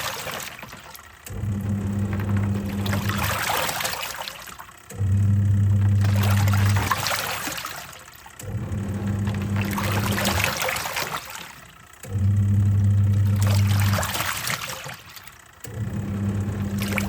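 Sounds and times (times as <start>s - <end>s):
water sloshing: 0.0s - 5.1s, 5.7s - 11.9s, 13.2s - 17.0s
washing machine motor humming: 0.0s - 17.0s.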